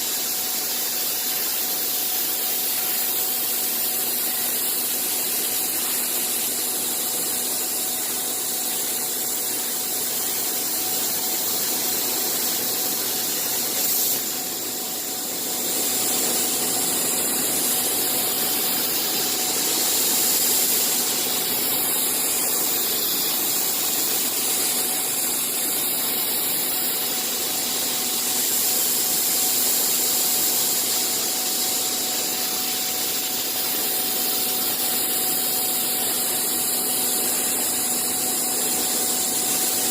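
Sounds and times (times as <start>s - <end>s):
machine running with even hiss: 0.0s - 39.9s.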